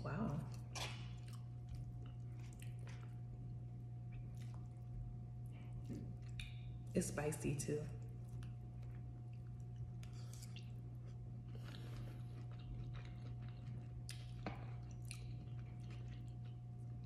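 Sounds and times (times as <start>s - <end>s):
steady low hum: 0.0s - 17.0s
chewing food: 0.3s - 6.9s, 8.0s - 17.0s.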